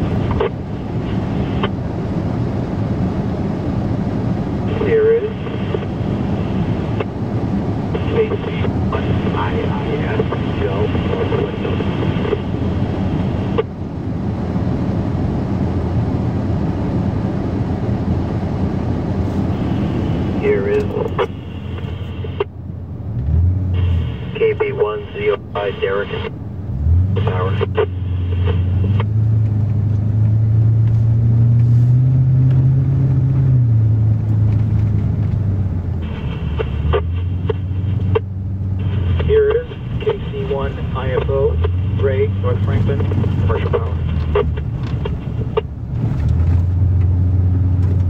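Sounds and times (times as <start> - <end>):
engine and tyres drone in cab: 0.0 - 48.0.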